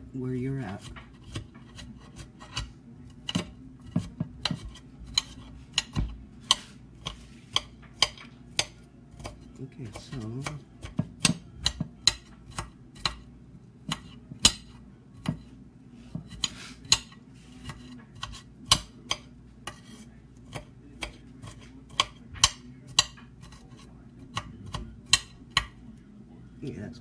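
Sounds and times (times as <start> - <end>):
knife chopping on glass board: 0.7 - 15.5, 16.1 - 25.8.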